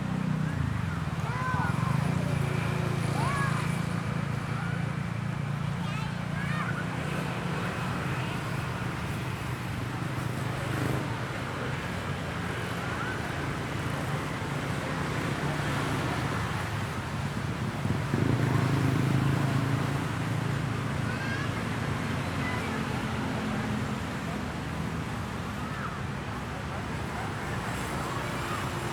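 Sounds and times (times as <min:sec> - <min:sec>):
road traffic hum: 0:00.0 - 0:28.9.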